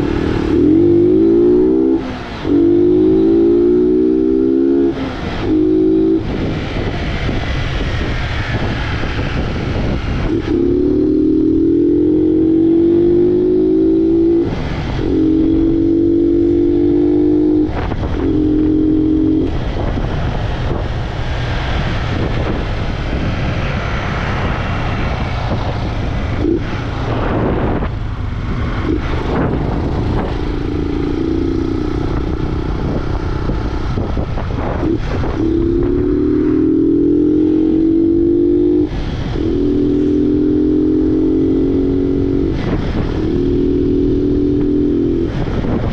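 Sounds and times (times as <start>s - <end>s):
motorcycle engine revving through gears: 0.0s - 45.9s
wind noise: 0.0s - 45.9s.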